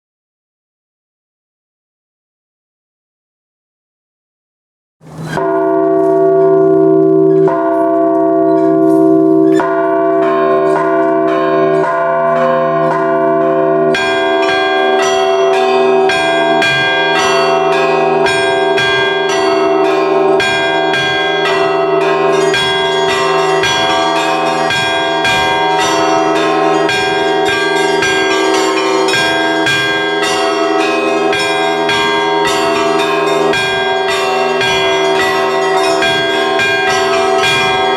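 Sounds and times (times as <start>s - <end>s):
small high bells pealing: 5.2s - 37.9s
large church bells tolling: 5.3s - 37.9s.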